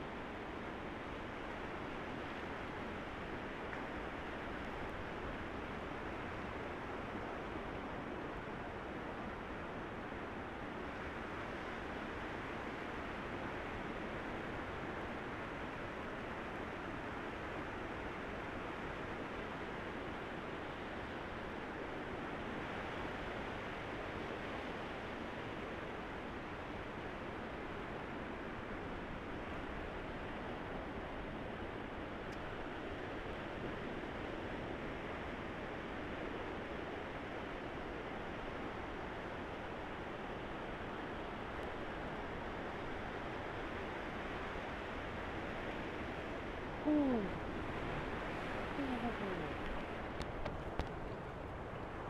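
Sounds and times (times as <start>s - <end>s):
wind at the shore: 0.0s - 52.0s
sea surf: 0.2s - 50.2s.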